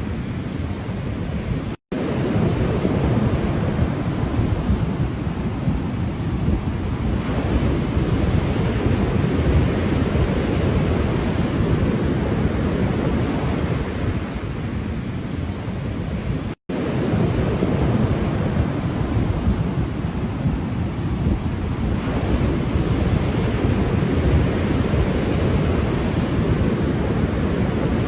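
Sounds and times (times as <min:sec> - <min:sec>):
ocean surf rolling: 0:00.0 - 0:28.0
wind rumbling on microphone: 0:00.0 - 0:28.0.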